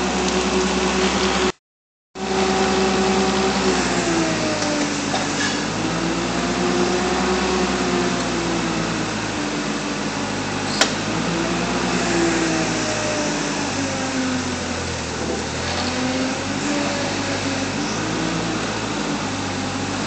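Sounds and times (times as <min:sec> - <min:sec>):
forklift engine running: 0:00.0 - 0:01.6, 0:02.2 - 0:20.0.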